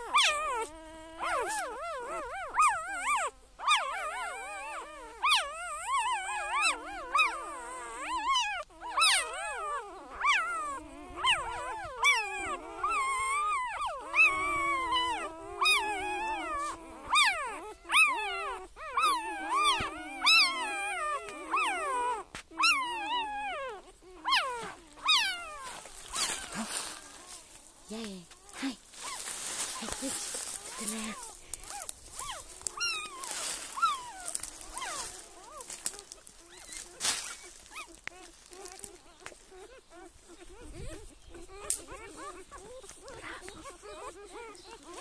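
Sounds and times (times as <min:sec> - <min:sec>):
animal howling: 0:00.0 - 0:27.7, 0:28.4 - 0:45.0.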